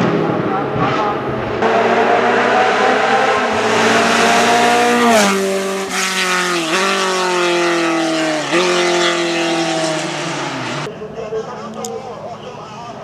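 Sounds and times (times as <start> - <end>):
race car engine revving past: 0.0 - 10.9.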